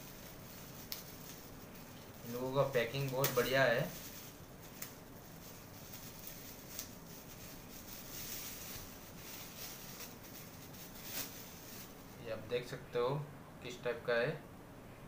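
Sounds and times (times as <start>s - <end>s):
plastic wrapping crinkling: 0.0s - 12.3s.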